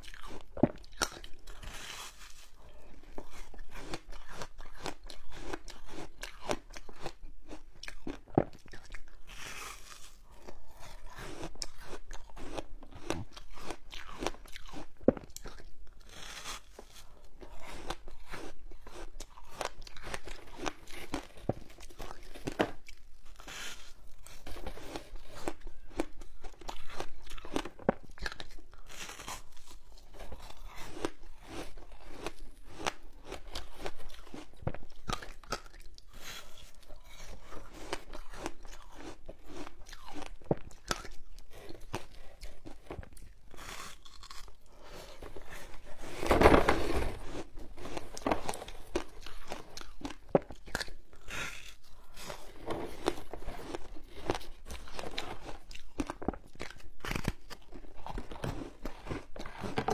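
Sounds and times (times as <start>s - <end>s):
crunching ice while chewing: 0.0s - 59.9s.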